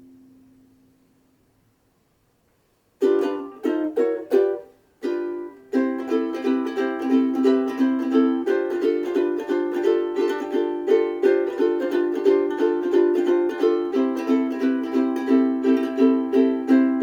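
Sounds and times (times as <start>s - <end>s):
ukulele strumming: 3.0s - 17.0s.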